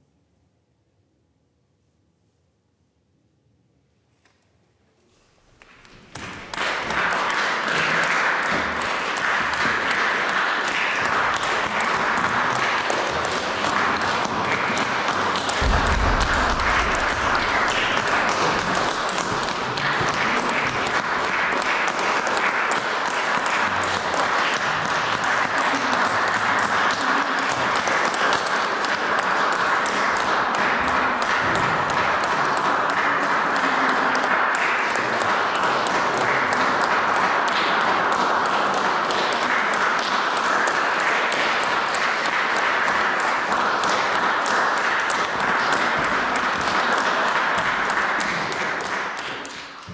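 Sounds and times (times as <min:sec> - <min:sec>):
audience applauding: 0:05.8 - 0:49.9.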